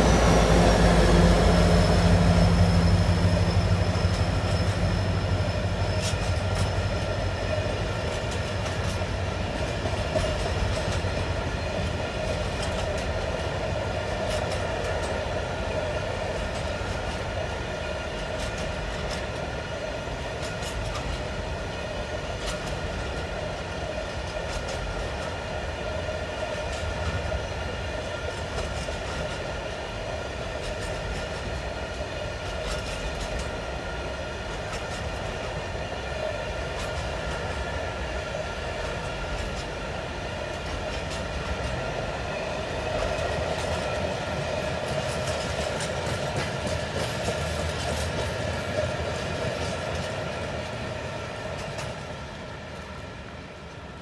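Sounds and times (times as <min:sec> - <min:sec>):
freight train wagons rumbling: 0:00.0 - 0:54.0.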